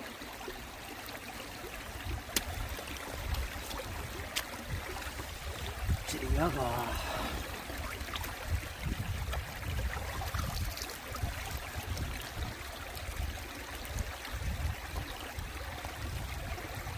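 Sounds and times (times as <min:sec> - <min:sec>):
stream water running: 0:00.0 - 0:16.9.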